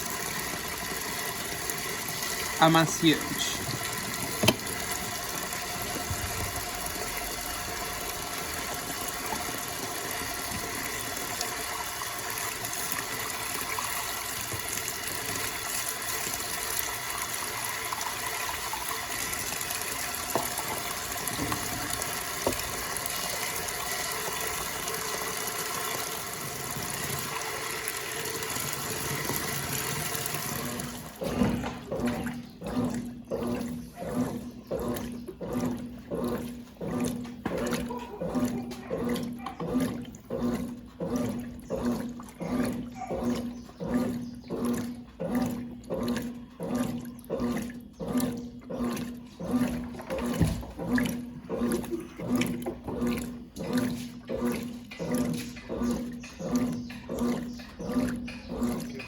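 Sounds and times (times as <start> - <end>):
washing machine hum: 0.0 - 59.0
water running into washing machine: 0.0 - 59.0
water sloshing: 0.0 - 59.0.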